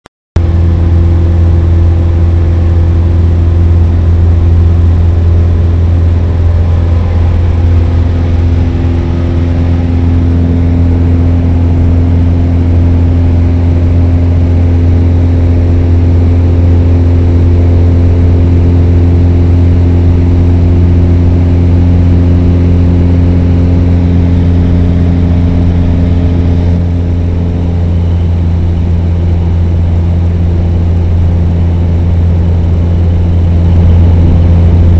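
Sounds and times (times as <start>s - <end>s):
propeller plane engine drone: 0.4s - 34.9s.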